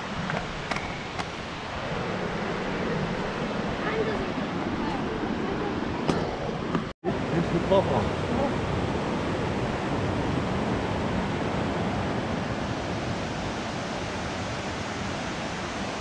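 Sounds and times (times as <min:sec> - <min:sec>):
distant waterfall rushing: 0:00.0 - 0:16.0.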